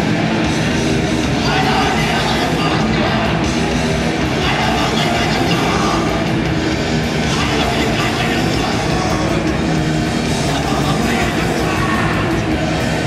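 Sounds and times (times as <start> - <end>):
bass guitar: 0.0 - 13.0
distorted electric guitars: 0.0 - 13.0
drums: 0.0 - 13.0.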